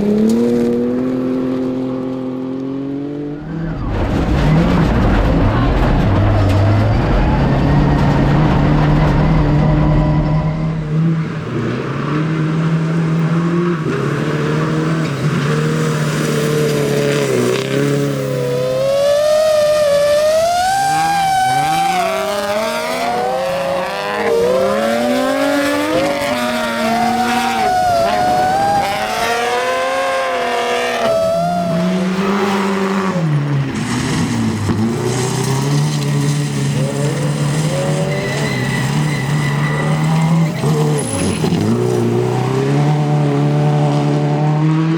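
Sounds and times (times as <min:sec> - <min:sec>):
rally car engine at speed: 0:00.0 - 0:44.9.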